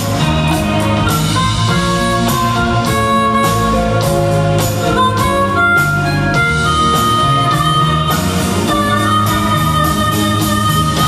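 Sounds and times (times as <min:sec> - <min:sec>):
live band playing: 0:00.0 - 0:11.0
sliding lead notes: 0:00.0 - 0:11.0.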